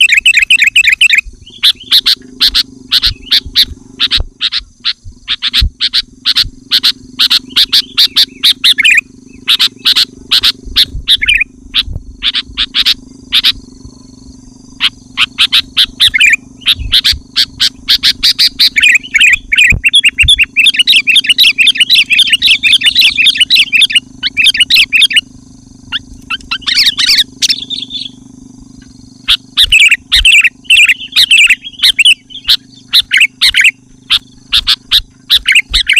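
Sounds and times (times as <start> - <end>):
bird chattering song: 0.0 - 35.9.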